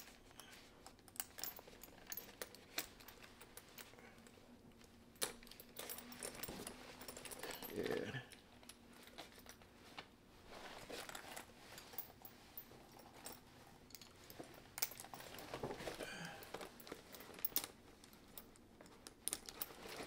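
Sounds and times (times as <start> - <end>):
metal bag hardware clinking: 0.0 - 4.3, 5.1 - 9.6, 10.9 - 20.0.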